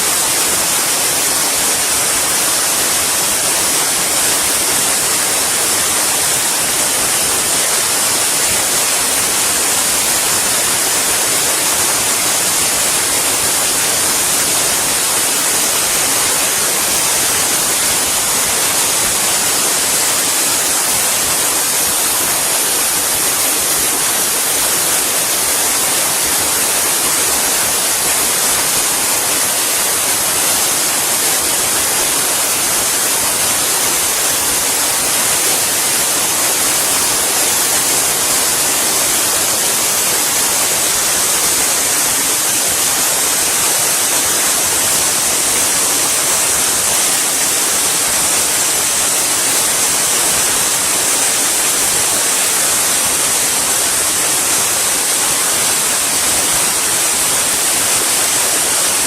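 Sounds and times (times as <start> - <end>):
loud steady hiss: 0.0 - 59.0.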